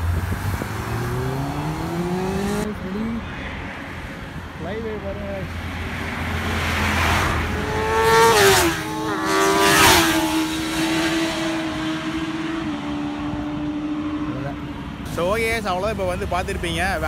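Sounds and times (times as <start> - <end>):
motorbikes passing at speed: 0.0 - 15.0.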